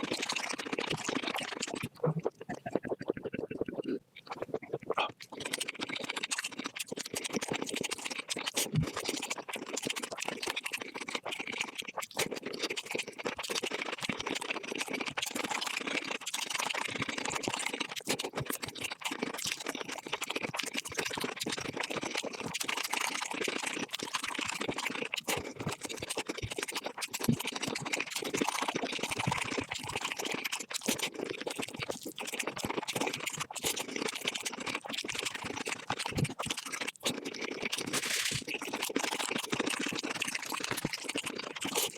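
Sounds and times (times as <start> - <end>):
sped-up chewing crunches: 0.0 - 41.9.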